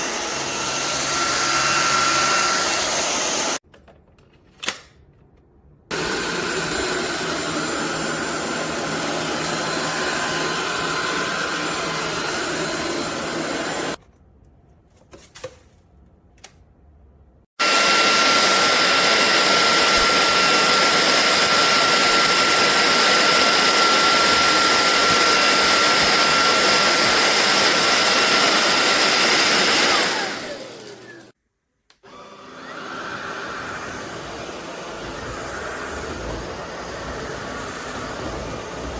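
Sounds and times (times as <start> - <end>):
vacuum cleaner motor running: 0.0 - 3.6, 5.9 - 14.0, 17.6 - 31.4, 32.0 - 38.9.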